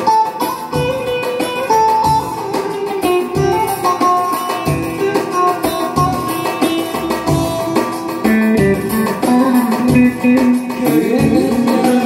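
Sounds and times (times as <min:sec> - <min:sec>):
bass and drum beat: 0:00.0 - 0:12.0
plucked-string keyboard melody: 0:00.0 - 0:12.0.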